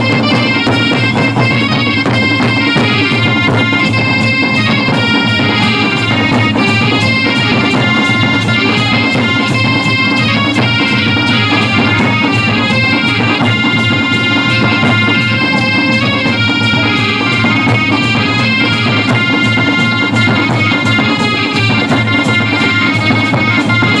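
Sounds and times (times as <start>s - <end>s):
reedy lead melody: 0.0s - 24.0s
steady drum beat: 0.0s - 24.0s.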